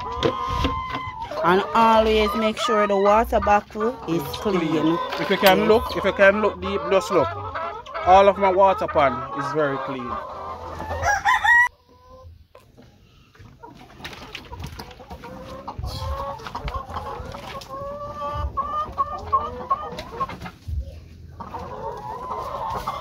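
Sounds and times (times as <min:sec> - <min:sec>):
hens clucking: 0:00.0 - 0:23.0.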